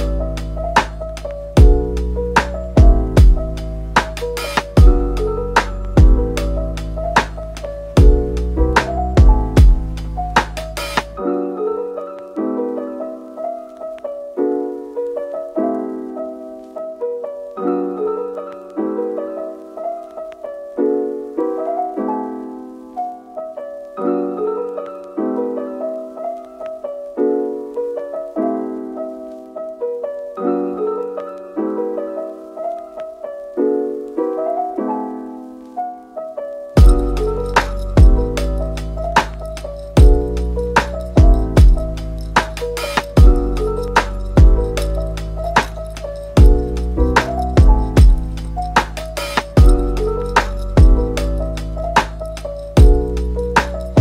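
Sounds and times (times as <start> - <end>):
gentle solo piano: 0.0 - 54.0.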